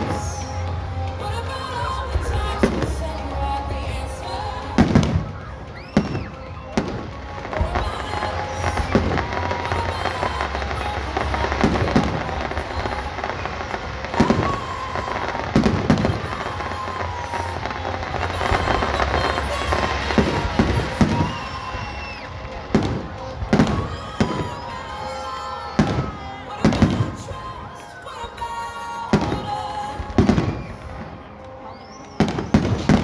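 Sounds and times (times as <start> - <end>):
fireworks crackling and fizzing: 0.0 - 33.0.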